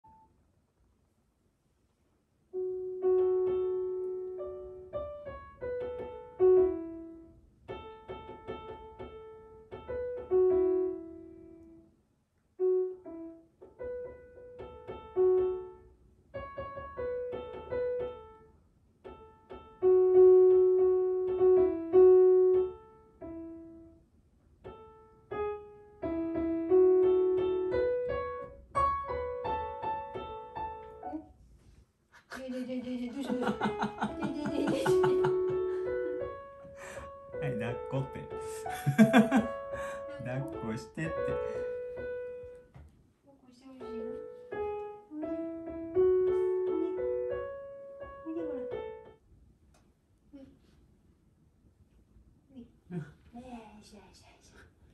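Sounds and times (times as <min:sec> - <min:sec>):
solo piano music: 0:00.0 - 0:00.3, 0:02.5 - 0:12.0, 0:12.6 - 0:31.5, 0:33.2 - 0:43.1, 0:43.7 - 0:49.7.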